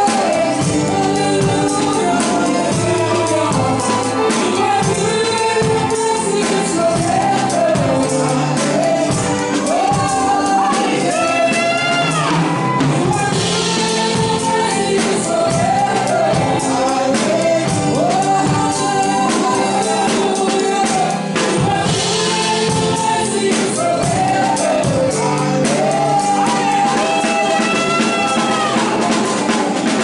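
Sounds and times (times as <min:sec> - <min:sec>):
drum kit steady beat: 0:00.0 - 0:30.0
keyboard: 0:00.0 - 0:30.0
voices singing gospel: 0:00.0 - 0:30.0.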